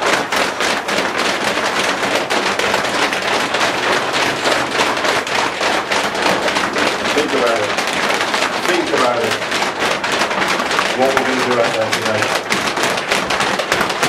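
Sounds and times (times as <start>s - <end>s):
feet stamping on hard floor: 0.0s - 14.0s.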